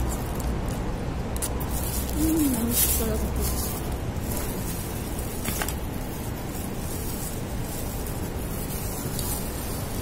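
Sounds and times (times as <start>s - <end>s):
faint rustles: 0.0s - 10.0s.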